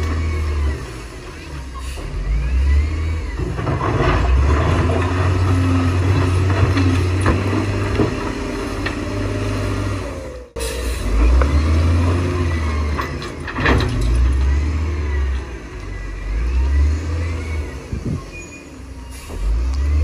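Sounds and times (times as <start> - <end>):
heavy diesel engines droning: 0.0 - 20.0.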